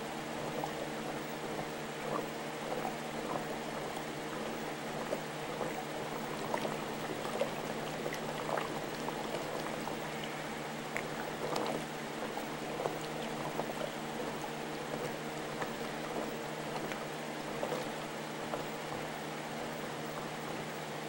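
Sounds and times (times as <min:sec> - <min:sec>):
steady low hum: 0:00.0 - 0:21.0
water bubbling and trickling: 0:00.2 - 0:20.9.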